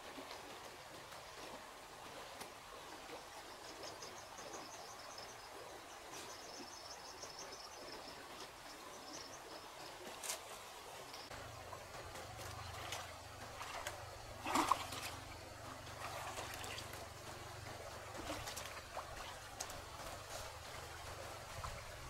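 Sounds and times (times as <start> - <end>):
rural outdoor ambience: 0.0 - 22.0.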